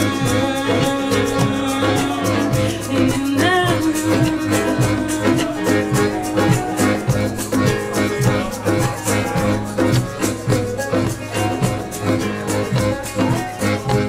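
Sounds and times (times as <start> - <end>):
band playing guitar over a beat: 0.0 - 14.0.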